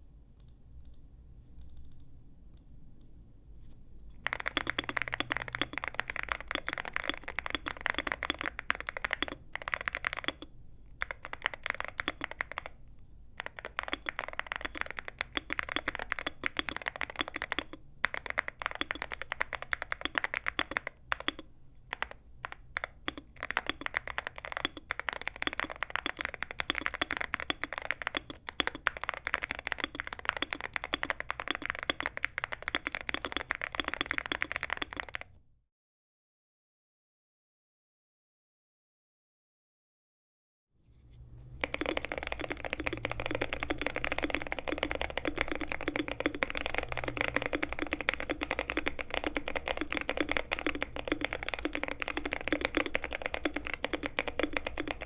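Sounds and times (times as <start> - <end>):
keyboard typing clacks: 4.2 - 12.8, 13.4 - 35.3, 41.4 - 55.0.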